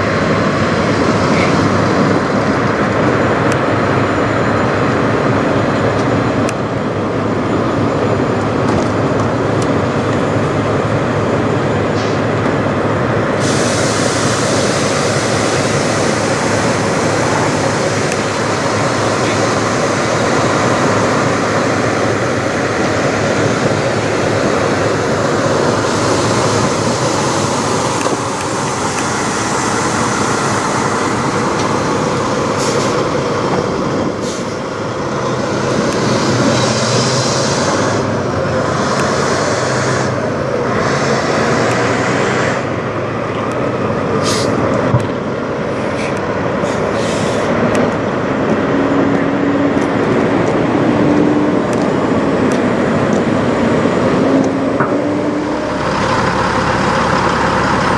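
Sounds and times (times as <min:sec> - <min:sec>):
diesel truck engine idling: 0:00.0 - 0:57.9.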